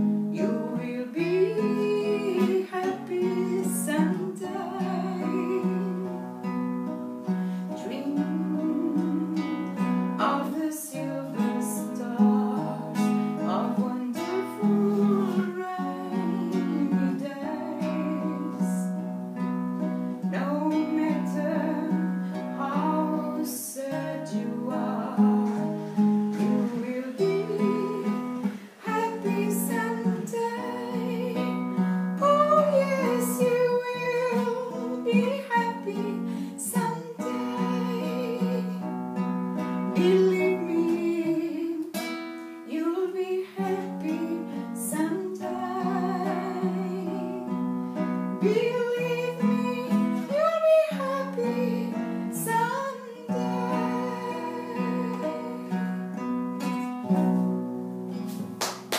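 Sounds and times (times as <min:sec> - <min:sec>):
woman singing: 0:00.0 - 0:57.4
classical guitar chords: 0:00.0 - 0:58.9.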